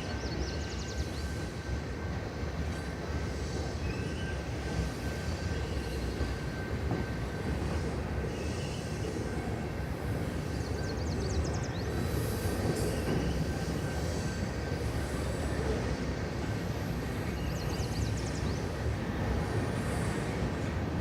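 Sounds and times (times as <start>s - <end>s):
faint high wheel squeal: 0.0s - 20.7s
train cars rumbling on track: 0.0s - 21.0s.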